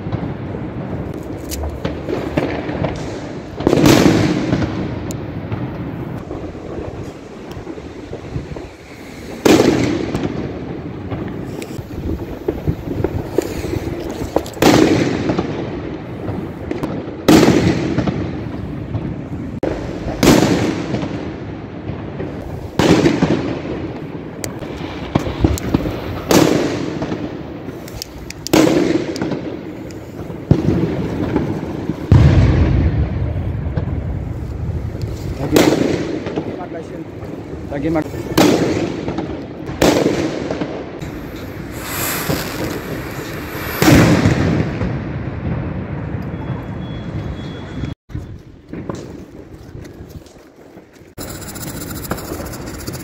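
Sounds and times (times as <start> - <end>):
fireworks bangs with echo: 0.0 - 46.8
fireworks crackles and pops: 0.0 - 46.8, 48.2 - 53.0.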